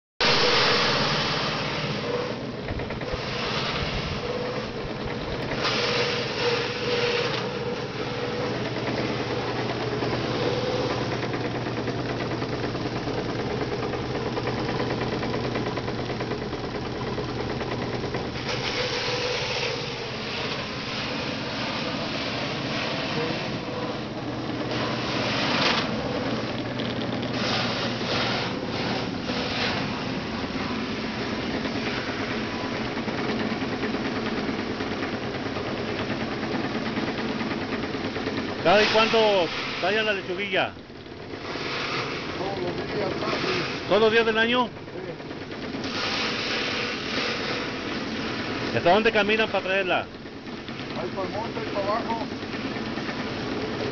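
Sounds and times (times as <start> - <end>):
leaves hissing through machine: 0.2 - 37.6, 38.5 - 45.1, 45.7 - 53.9
fibre-stripping machine humming: 0.2 - 53.9.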